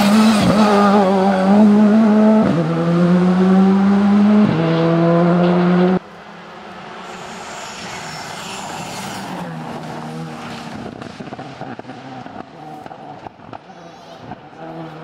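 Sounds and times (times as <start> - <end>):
rally car engine: 0.0 - 15.0.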